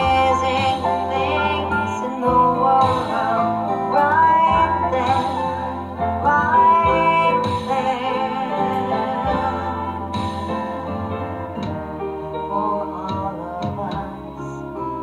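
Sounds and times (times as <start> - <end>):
melody over low accompaniment: 0.0 - 15.0.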